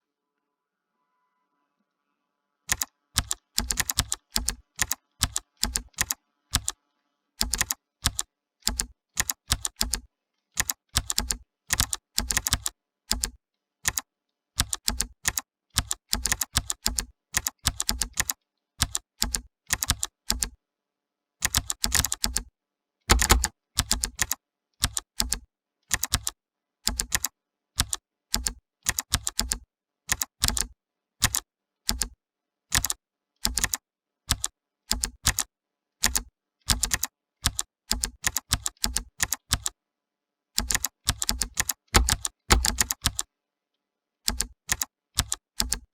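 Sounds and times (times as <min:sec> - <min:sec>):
typing on clicky keyboard: 0:02.7 - 0:06.8, 0:07.4 - 0:20.6, 0:21.4 - 0:22.5, 0:23.1 - 0:39.8, 0:40.6 - 0:43.3, 0:44.2 - 0:45.9.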